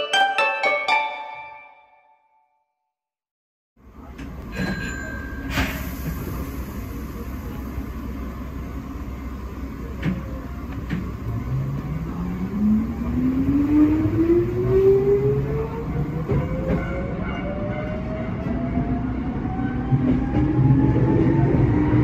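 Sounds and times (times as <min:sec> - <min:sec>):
train low rumble: 0:03.8 - 0:22.0.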